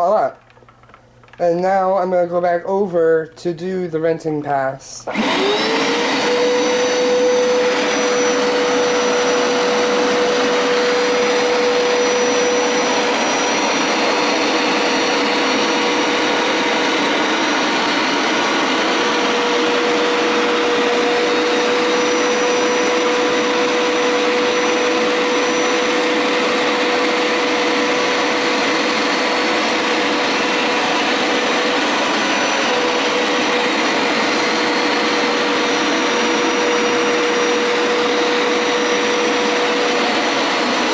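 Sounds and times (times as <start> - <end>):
carpet cleaner running: 5.0 - 40.9.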